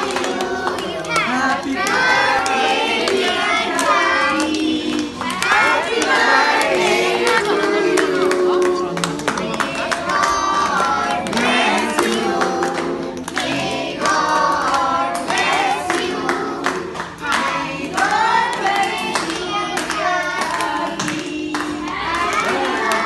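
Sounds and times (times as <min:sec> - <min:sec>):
group singing: 0:00.0 - 0:23.0
hand claps: 0:00.0 - 0:23.0
music: 0:00.0 - 0:23.0.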